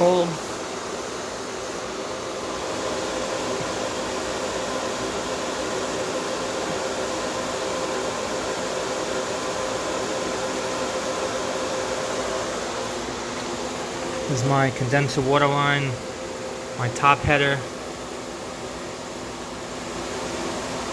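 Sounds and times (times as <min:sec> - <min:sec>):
refrigeration compressor humming: 0:00.0 - 0:20.9.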